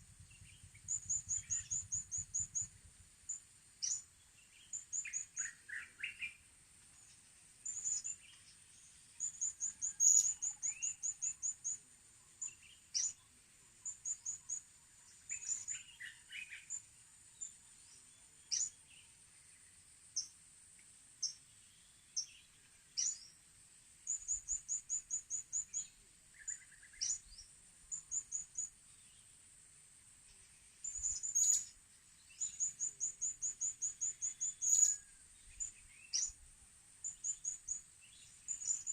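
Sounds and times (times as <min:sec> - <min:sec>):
faint steady high hiss: 0:00.0 - 0:38.9
small birds chirping: 0:00.1 - 0:23.4, 0:24.0 - 0:29.6, 0:30.2 - 0:38.9.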